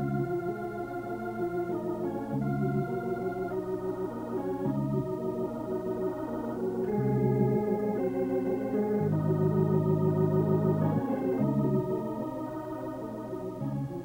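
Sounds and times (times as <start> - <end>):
organ chords: 0.0 - 14.0.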